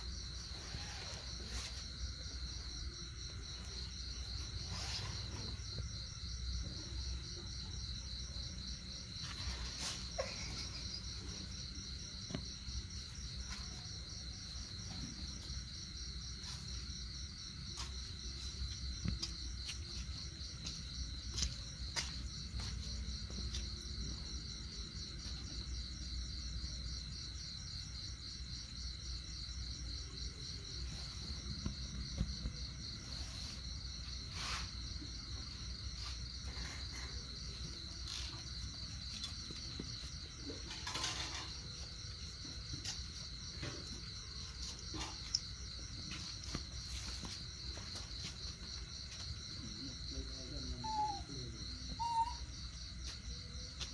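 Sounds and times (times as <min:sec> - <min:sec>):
crickets chirping: 0:00.0 - 0:53.9.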